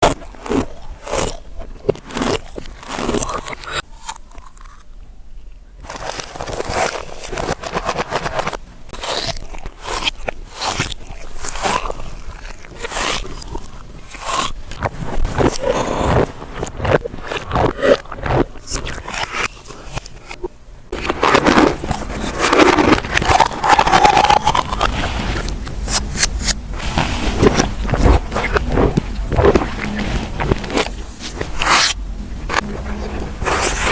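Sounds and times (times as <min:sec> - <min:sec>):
reversed eating sounds: 0:00.0 - 0:33.9.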